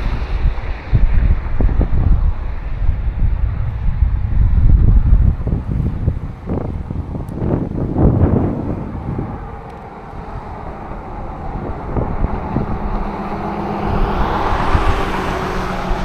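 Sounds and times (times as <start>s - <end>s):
passing motor vehicle: 0.0s - 16.0s
wind buffeting microphone: 0.0s - 16.0s.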